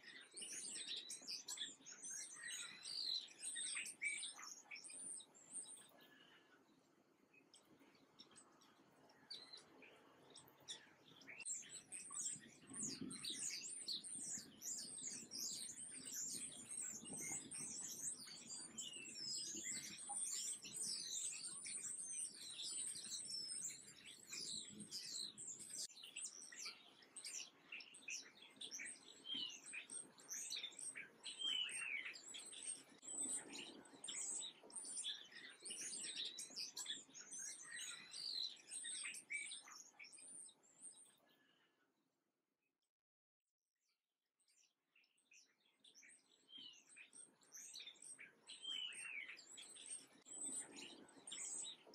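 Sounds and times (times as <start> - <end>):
songbirds chirping: 0.0 - 41.9, 44.4 - 51.9.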